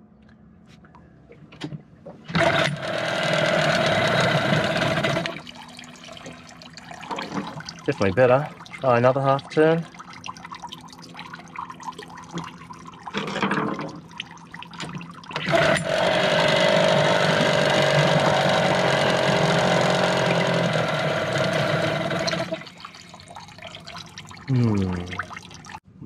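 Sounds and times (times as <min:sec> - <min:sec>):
outboard motor idling: 0:02.3 - 0:25.6.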